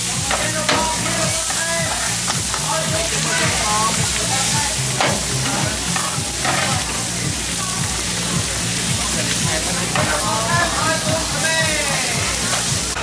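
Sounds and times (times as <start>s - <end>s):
food frying in hot oil: 0.0s - 13.0s
music with repeating bass line: 0.0s - 13.0s.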